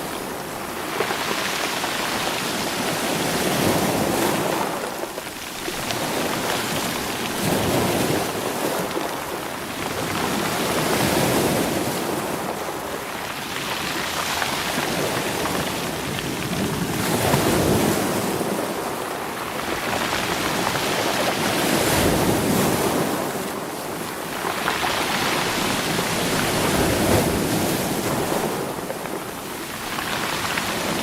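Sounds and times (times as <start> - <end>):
waves washing over stones: 0.0 - 31.0
rocks rattling in surf: 0.2 - 31.0.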